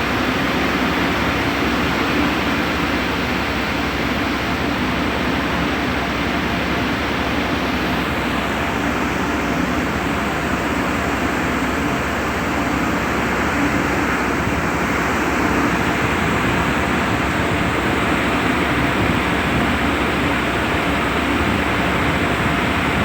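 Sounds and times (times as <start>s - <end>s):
boat engine running: 0.0s - 23.0s
constant rushing noise: 0.0s - 23.0s.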